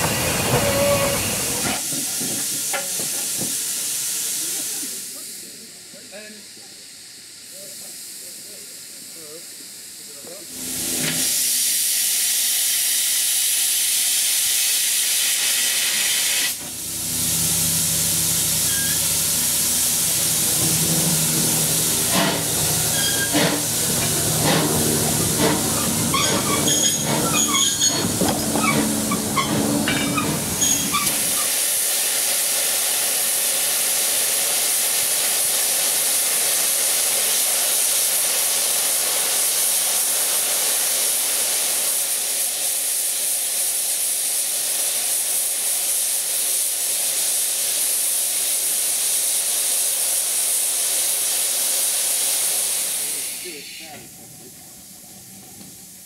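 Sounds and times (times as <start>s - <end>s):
steam locomotive clanking: 0.0s - 5.4s, 10.3s - 56.0s
steam blowing off: 0.0s - 56.0s.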